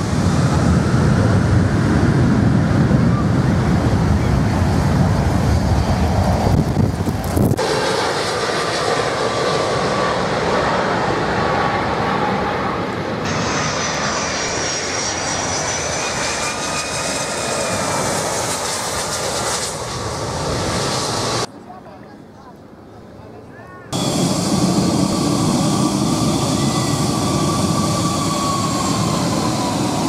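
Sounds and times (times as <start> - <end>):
high engine whine: 0.0 - 21.5, 24.0 - 30.0
jet engine rush: 0.0 - 21.5, 23.9 - 30.0.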